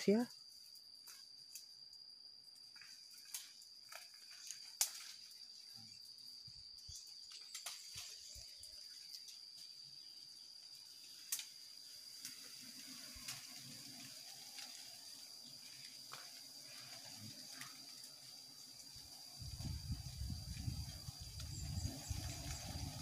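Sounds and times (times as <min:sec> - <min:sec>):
high-pitched insect trilling: 0:00.0 - 0:23.0.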